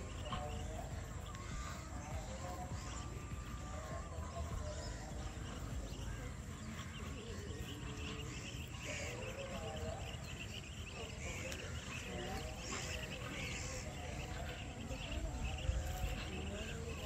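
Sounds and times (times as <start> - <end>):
birds chirping: 0.0 - 17.0
insects chirping: 0.0 - 17.0.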